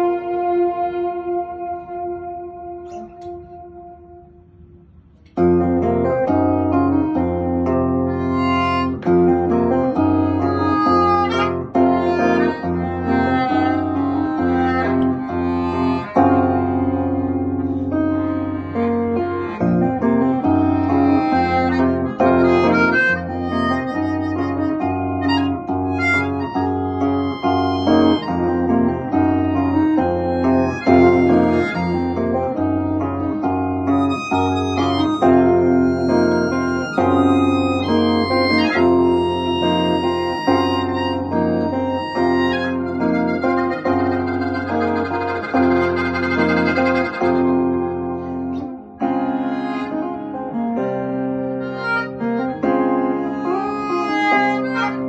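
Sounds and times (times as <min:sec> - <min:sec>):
melodica melody: 0:00.0 - 0:03.9, 0:06.3 - 0:50.6, 0:51.4 - 0:55.0.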